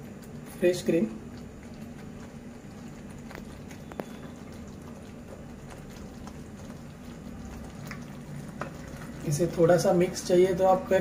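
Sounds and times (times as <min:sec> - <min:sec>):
gravy bubbling: 0:00.0 - 0:11.0.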